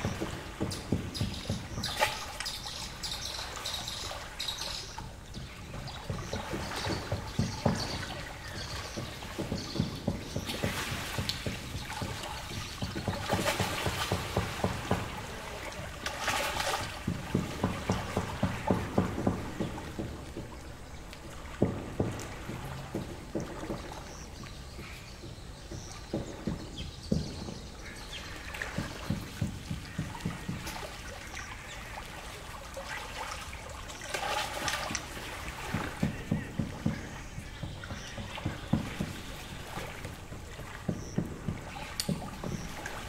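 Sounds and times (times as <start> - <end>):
lake waves lapping at shore: 0.0 - 43.0.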